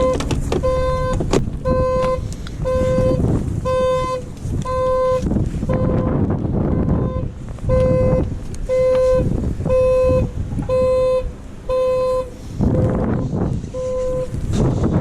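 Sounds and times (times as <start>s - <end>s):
car horn honking on and off: 0.0s - 13.0s, 13.7s - 14.4s
steady low rumble: 0.0s - 15.0s.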